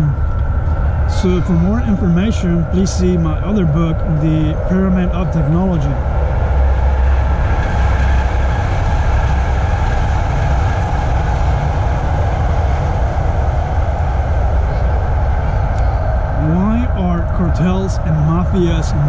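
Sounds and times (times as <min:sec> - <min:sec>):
moving vehicle rumble and hiss: 0:00.0 - 0:19.0.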